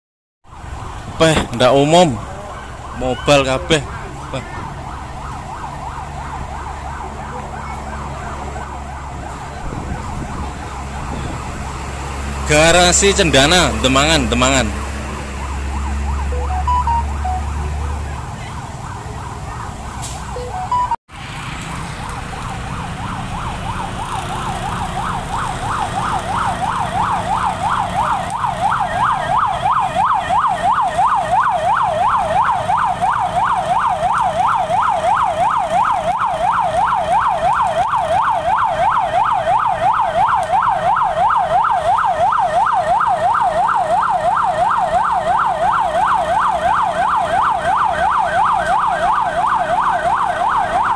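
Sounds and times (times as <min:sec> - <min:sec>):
siren yelping: 0:00.5 - 0:11.8, 0:12.4 - 0:21.0, 0:21.9 - 0:50.9
truck engine rumbling: 0:00.5 - 0:50.9.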